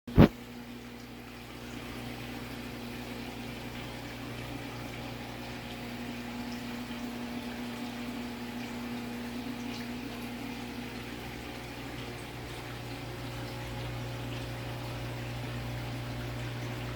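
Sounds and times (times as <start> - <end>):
aquarium pump humming: 0.1 - 16.9
circulating water: 0.1 - 16.9.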